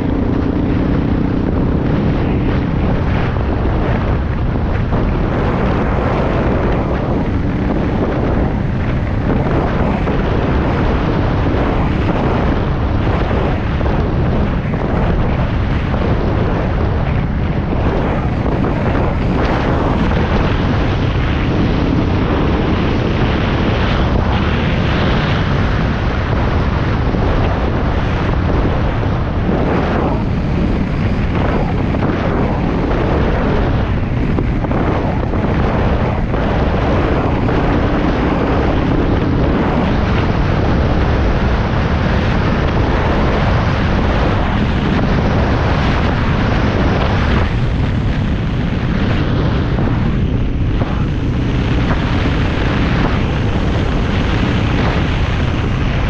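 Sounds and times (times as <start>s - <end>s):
vehicle rumbling on dirt road: 0.0s - 56.0s
wind noise on microphone: 0.0s - 56.0s.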